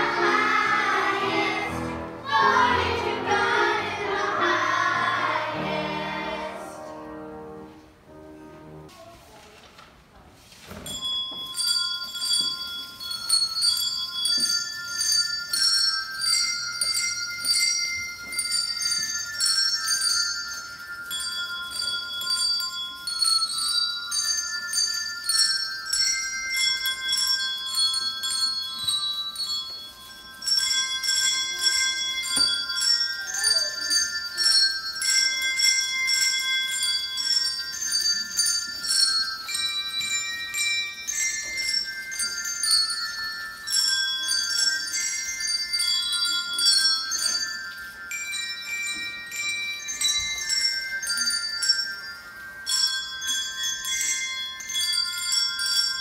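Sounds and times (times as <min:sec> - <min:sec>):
handbells ringing a tune: 0:00.0 - 0:06.9, 0:10.7 - 0:56.0.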